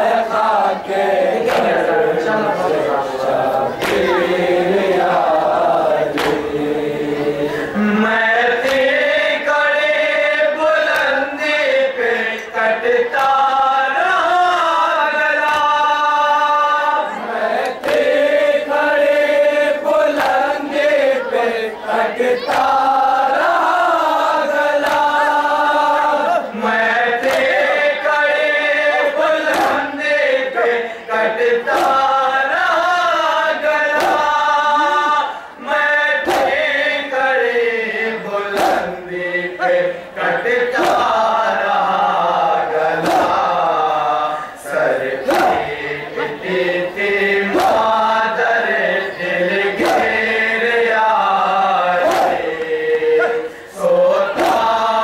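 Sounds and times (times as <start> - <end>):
men chanting over microphone: 0.0 - 55.0.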